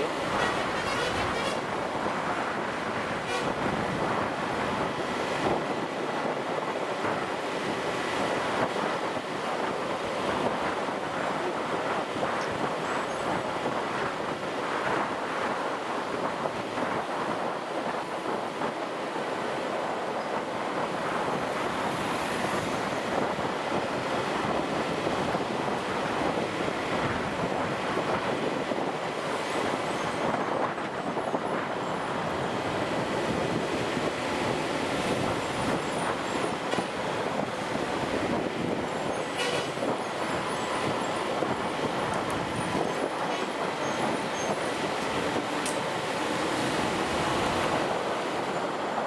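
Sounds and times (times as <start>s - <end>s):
wind rush: 0.0s - 49.0s.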